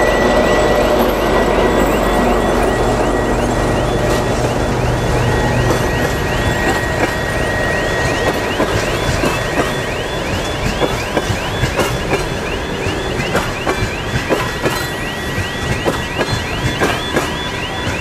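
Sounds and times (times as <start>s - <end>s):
diesel locomotive engine rumble: 0.0s - 18.0s
electronic warning signal chirps: 0.0s - 18.0s.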